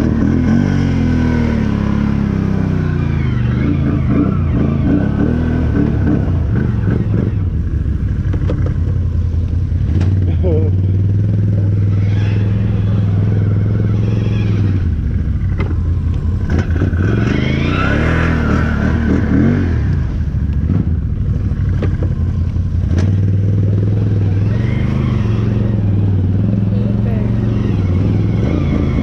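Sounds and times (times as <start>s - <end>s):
engine running and revving: 0.0s - 29.0s.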